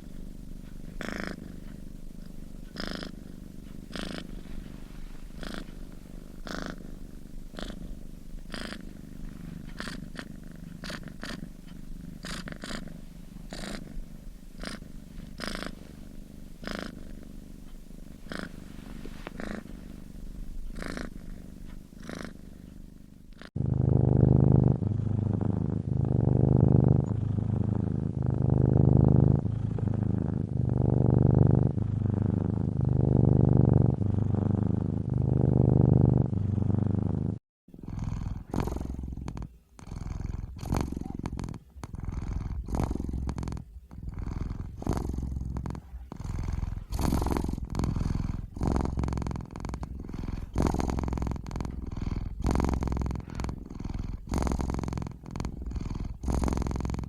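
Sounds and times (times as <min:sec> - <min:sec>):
cat snoring: 0:00.0 - 0:57.0.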